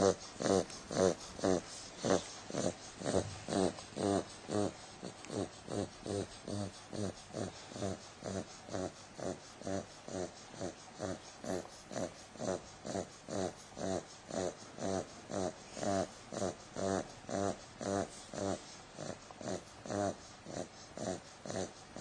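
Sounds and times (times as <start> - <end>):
puppy snoring: 0.0 - 22.0.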